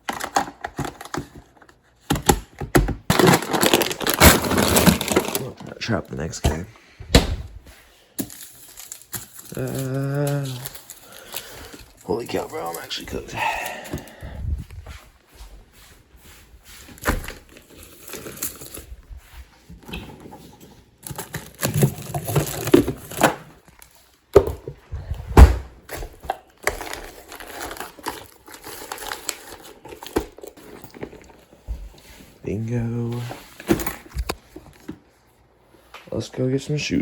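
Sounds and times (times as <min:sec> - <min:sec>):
rustling and crinkling: 0:03.1 - 0:36.0.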